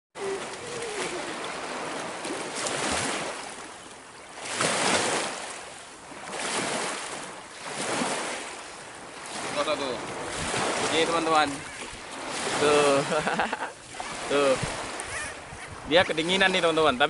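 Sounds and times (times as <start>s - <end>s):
waves breaking on rocky shore: 0.2s - 17.0s.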